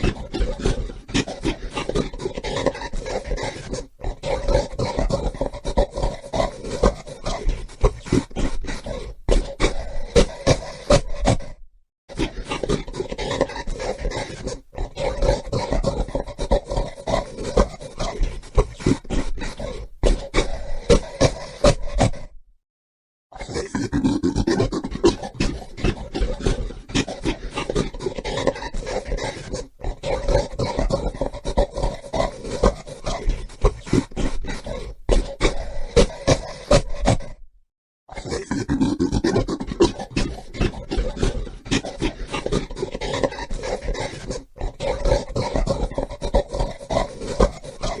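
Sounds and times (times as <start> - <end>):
gorilla grunting and growling: 0.0 - 22.4, 23.3 - 37.5, 38.1 - 48.0.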